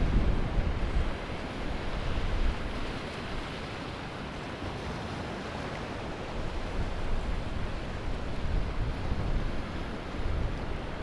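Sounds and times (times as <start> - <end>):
ocean surf on beach: 0.0 - 11.0.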